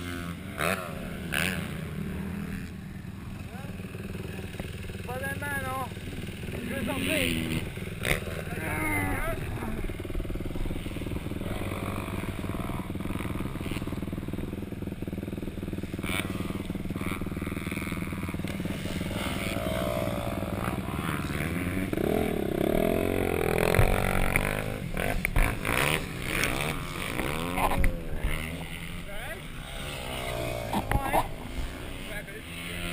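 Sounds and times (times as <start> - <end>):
dirt bike engine running: 0.0 - 32.9
motocross bikes revving past: 0.0 - 32.9.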